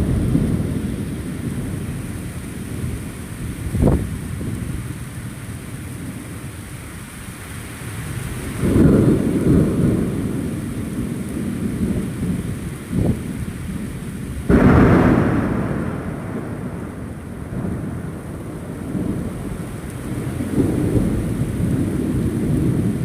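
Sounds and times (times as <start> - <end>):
thunder rumbling: 0.0 - 6.6, 8.1 - 23.0
steady rain: 0.0 - 23.0.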